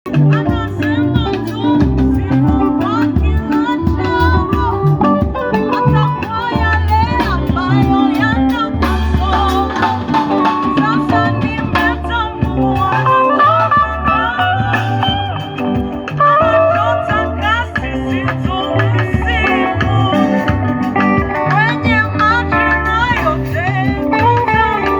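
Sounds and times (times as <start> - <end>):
gospel band playing: 0.0 - 24.9
person singing: 0.1 - 24.9.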